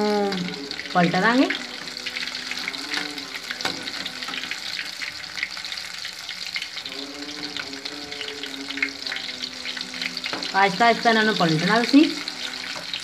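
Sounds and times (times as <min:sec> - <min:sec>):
deep-frying in hot oil: 0:00.0 - 0:13.0.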